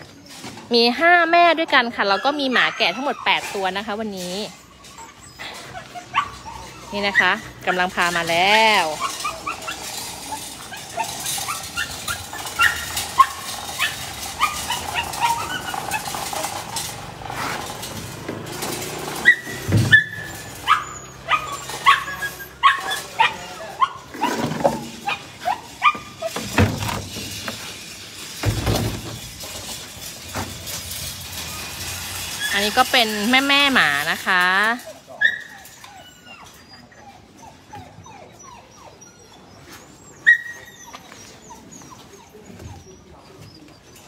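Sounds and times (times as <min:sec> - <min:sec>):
dogs barking and yelping: 0:00.0 - 0:44.0.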